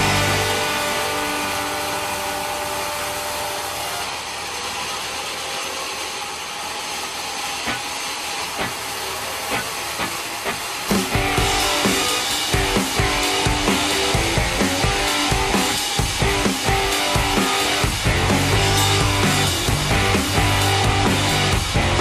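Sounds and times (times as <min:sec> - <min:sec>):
sawmill machinery hissing: 0:00.0 - 0:22.0.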